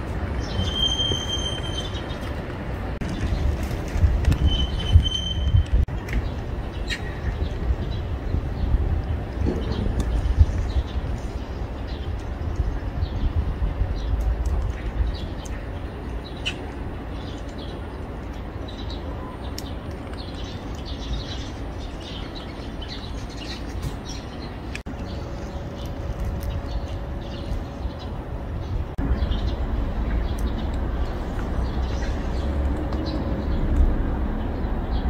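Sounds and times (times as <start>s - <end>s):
low outdoor rumble: 1.5s - 35.0s
small birds chirping: 4.4s - 35.0s.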